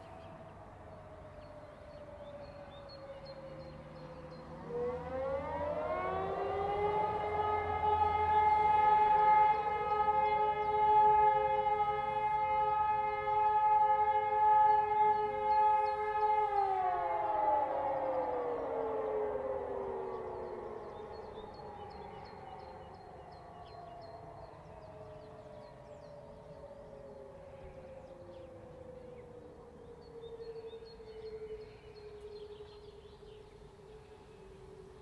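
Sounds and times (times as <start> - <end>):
distant sirens winding: 0.0 - 35.0.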